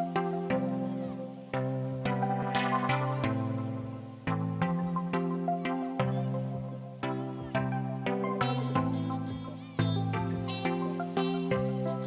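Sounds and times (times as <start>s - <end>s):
background music with chords and beat: 0.0s - 12.0s.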